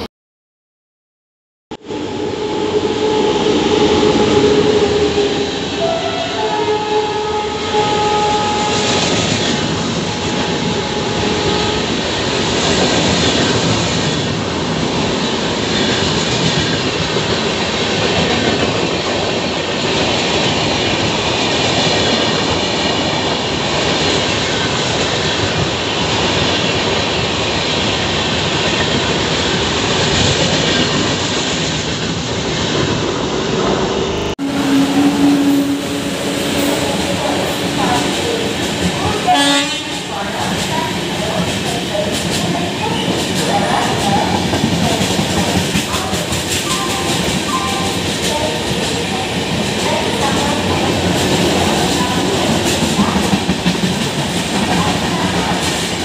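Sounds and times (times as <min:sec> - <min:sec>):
locomotive hum: 0:01.8 - 0:19.3, 0:28.5 - 0:56.0
clickety-clack of train wheels: 0:08.1 - 0:33.3, 0:34.7 - 0:56.0.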